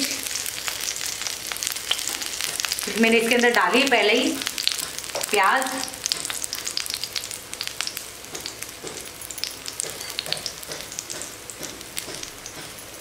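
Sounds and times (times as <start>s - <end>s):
batter sizzling in oil: 0.0s - 13.0s.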